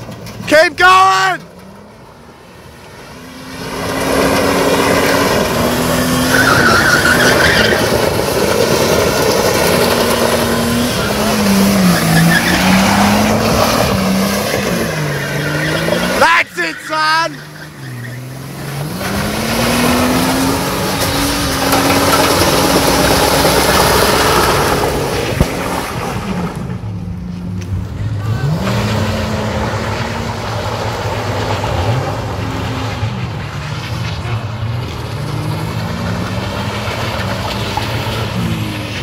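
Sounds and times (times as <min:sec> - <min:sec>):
car engine revving: 0:01.5 - 0:39.0.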